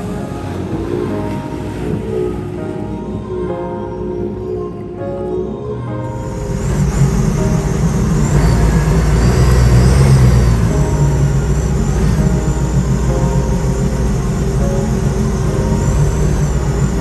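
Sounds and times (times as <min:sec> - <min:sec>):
jet boat engine running: 0:00.0 - 0:04.2, 0:06.1 - 0:17.0.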